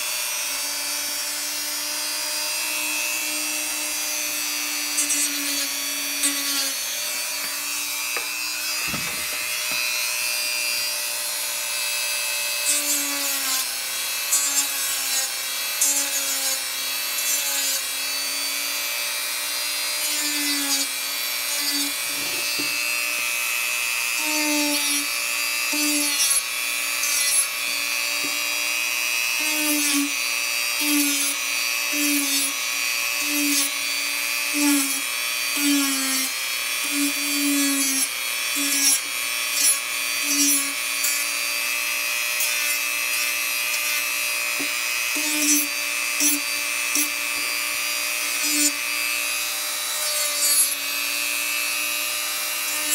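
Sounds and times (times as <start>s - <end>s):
rotary tool whining: 0.0s - 52.9s.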